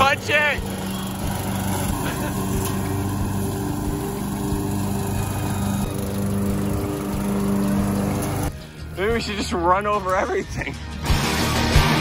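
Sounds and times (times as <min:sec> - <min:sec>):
riding lawn mower engine: 0:00.0 - 0:12.0.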